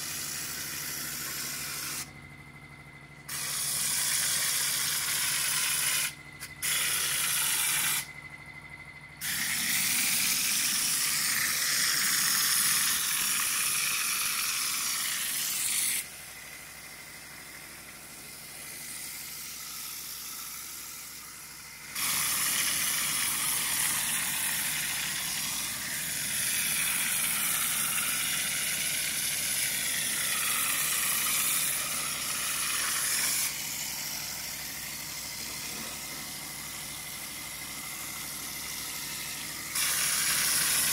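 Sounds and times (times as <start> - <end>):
mortar spray gun hissing: 0.0 - 2.2, 3.2 - 8.1, 9.2 - 40.9.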